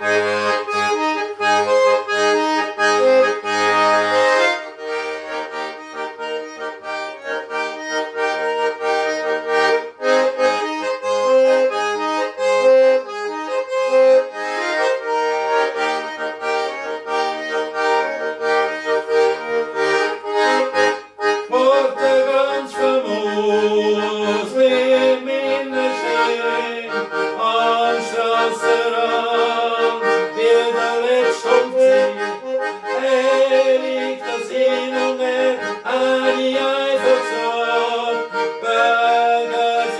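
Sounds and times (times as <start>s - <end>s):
button accordion folk tune: 0.0s - 39.9s.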